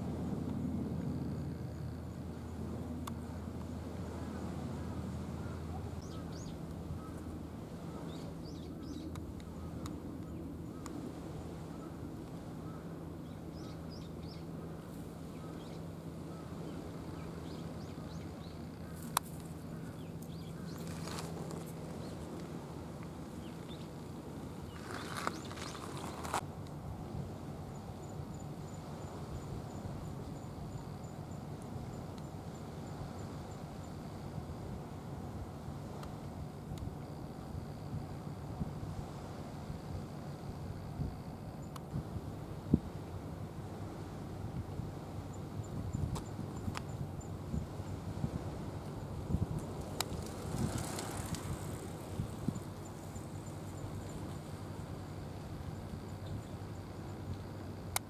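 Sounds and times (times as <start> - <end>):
faint insect chirp: 0.0 - 58.0
low outdoor background rumble: 0.0 - 58.0.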